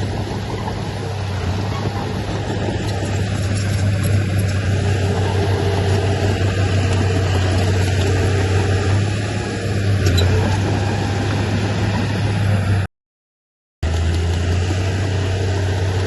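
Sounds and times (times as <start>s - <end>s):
heavy diesel engine droning: 0.0s - 12.9s, 13.8s - 16.0s.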